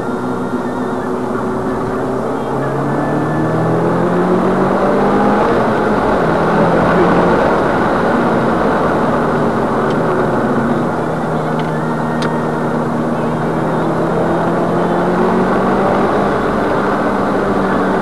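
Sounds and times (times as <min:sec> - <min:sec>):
car engine under load: 0:00.0 - 0:18.0
tyre and road noise on wet road: 0:00.0 - 0:18.0.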